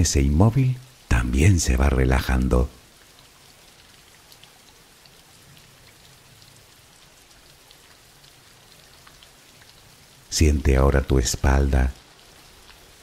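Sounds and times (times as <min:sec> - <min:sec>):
faint steady rain: 0:00.0 - 0:13.0.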